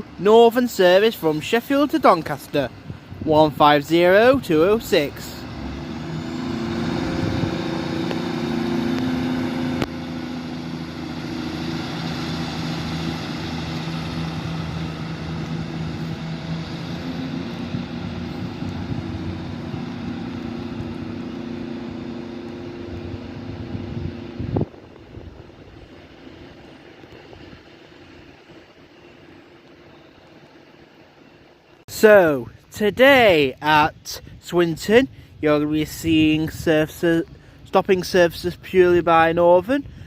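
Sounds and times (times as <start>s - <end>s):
diesel train engine droning: 0.0s - 40.0s.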